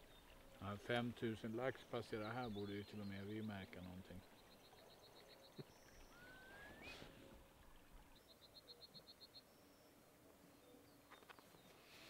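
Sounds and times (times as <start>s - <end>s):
faint bird calls: 2.2s - 12.0s.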